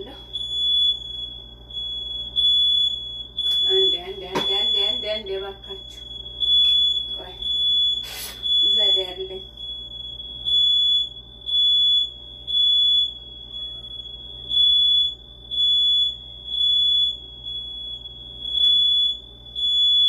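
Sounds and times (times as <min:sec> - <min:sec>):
house alarm beeping: 0:00.0 - 0:20.0.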